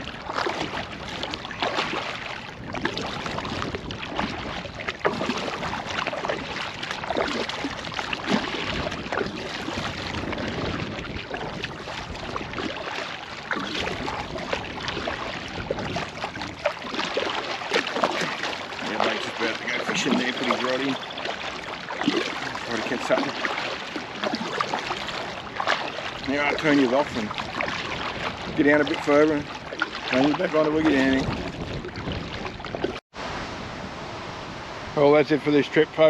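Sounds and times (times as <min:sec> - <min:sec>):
oars splashing: 0:00.0 - 0:33.0
water lapping around kayak: 0:00.0 - 0:33.2.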